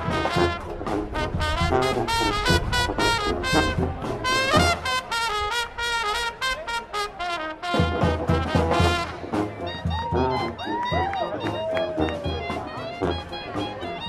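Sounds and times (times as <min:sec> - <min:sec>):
bass line: 0:00.0 - 0:06.6, 0:07.7 - 0:14.0
drums: 0:00.0 - 0:14.0
marching band horns: 0:00.0 - 0:14.0.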